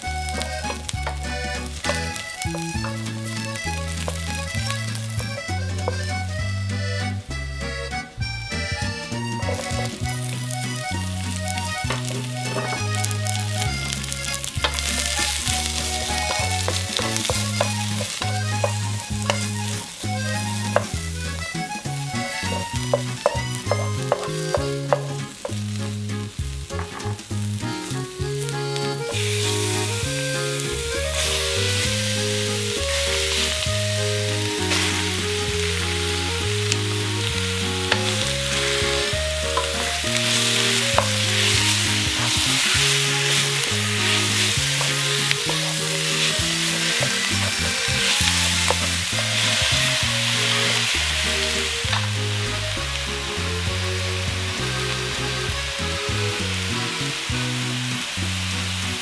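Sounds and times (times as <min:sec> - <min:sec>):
wooden spatula scraping wok: 0:00.0 - 0:06.4, 0:09.3 - 0:53.4
meat sizzling in wok: 0:00.0 - 0:07.6, 0:09.4 - 0:59.0
background music with bass line: 0:00.0 - 0:59.0.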